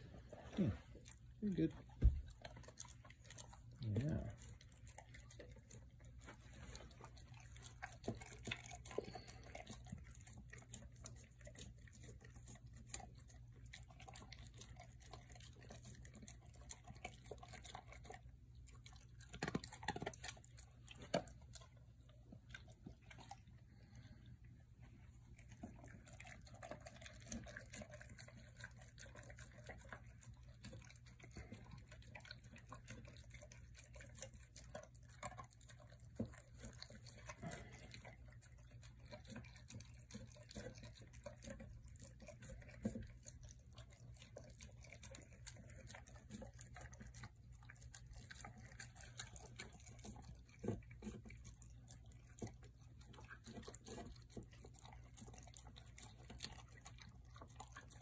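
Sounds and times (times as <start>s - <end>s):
dog eating wet food: 0.0s - 58.0s.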